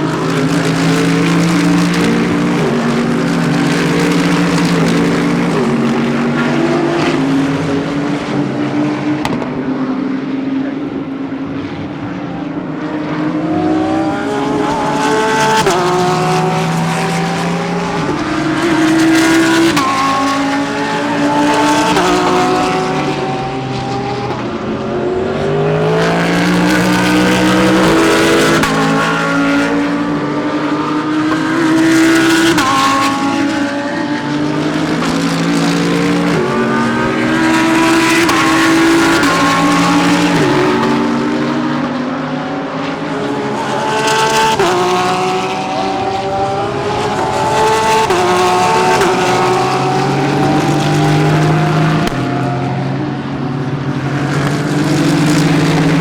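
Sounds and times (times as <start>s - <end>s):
race cars accelerating: 0.0s - 56.0s.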